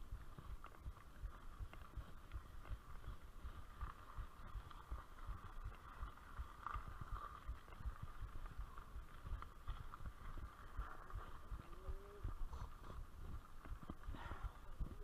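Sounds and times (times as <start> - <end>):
low thumps and knocks from bumps: 0.0 - 15.0
bike rolling over dirt track: 0.1 - 12.3.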